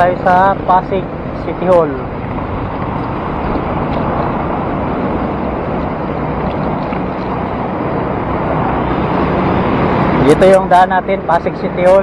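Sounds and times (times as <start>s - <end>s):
road traffic: 0.0s - 12.0s
wind rushing over microphone: 0.0s - 12.0s.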